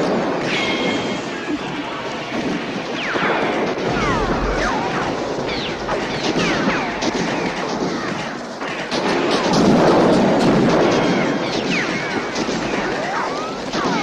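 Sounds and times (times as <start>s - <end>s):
continuous gunfire: 0.0s - 14.0s.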